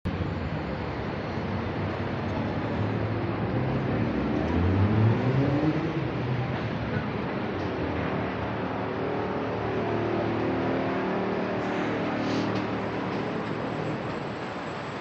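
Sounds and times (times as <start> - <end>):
city street ambience: 0.1 - 15.0
vehicle engine revving: 1.9 - 14.3.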